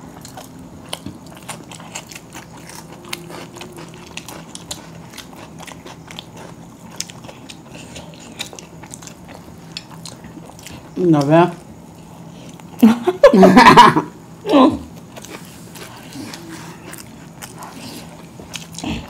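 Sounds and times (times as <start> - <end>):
people chewing food: 0.0 - 13.8, 14.4 - 19.0
faint low steady hum: 0.0 - 19.0.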